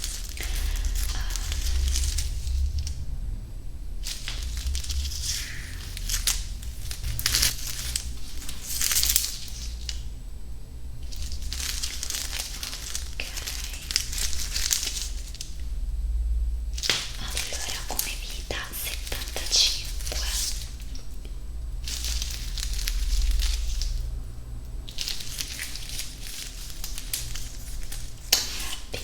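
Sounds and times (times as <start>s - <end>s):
crackly crinkly noises: 0.0s - 29.0s.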